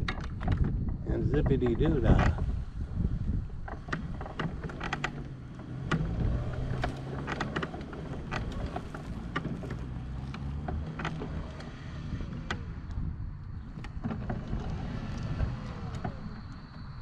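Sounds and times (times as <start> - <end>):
wheelchair clicks and rattles: 0.0 - 17.0
wheelchair motor hum: 1.4 - 17.0.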